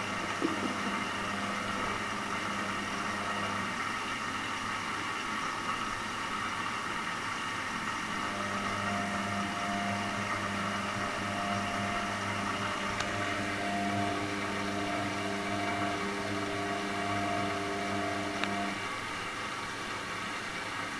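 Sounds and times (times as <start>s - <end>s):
motor hum: 0.0s - 6.6s, 7.3s - 20.5s
washing machine running: 0.0s - 20.9s.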